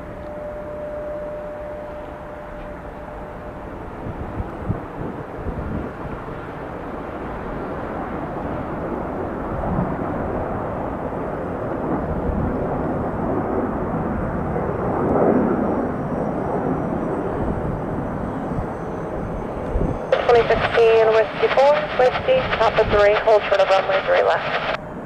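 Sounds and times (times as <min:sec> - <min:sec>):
jet airliner engine rushing: 0:00.0 - 0:25.0.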